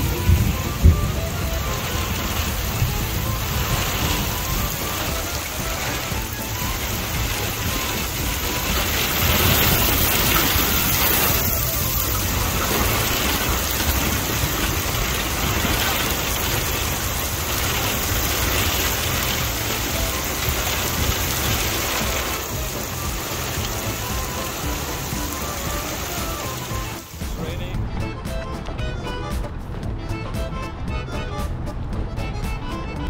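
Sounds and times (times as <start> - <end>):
heavy rain on water and pavement: 0.0 - 29.8.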